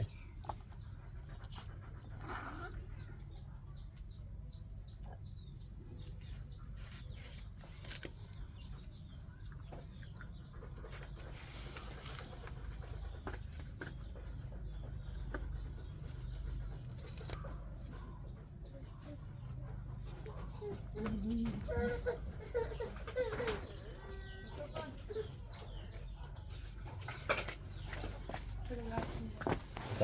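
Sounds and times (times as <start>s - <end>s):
small bird chirping: 0.0s - 30.0s.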